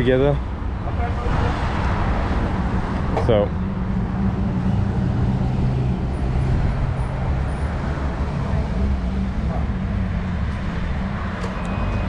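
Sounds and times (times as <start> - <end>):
vehicle engine low hum: 0.0 - 12.0.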